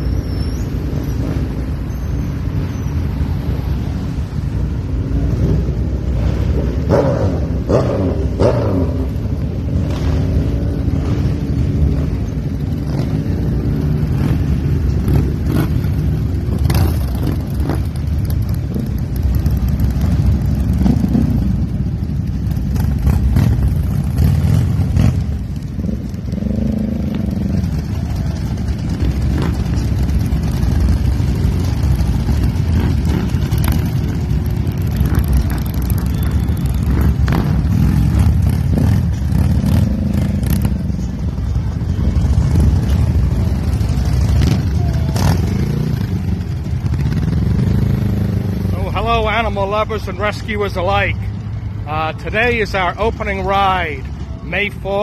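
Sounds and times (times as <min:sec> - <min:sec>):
motorcycle revving: 0:00.0 - 0:55.0
motorcycles rolling past: 0:00.0 - 0:55.0.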